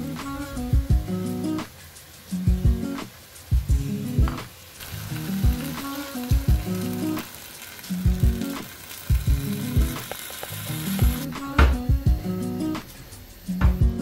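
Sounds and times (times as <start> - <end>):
music with low beat: 0.0 - 14.0
stew sizzling in a pot: 0.0 - 14.0.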